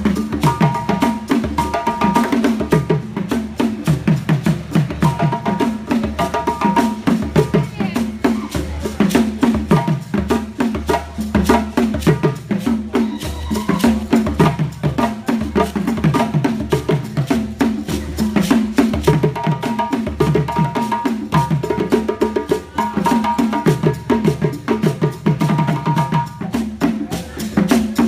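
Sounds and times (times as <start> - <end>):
sharp clicking percussion: 0.0 - 28.0.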